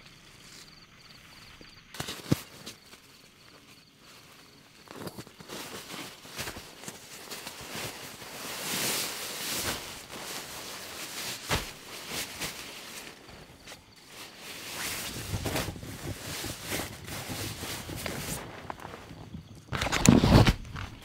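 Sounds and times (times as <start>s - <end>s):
nylon sleeping bag rustling: 1.9s - 21.0s.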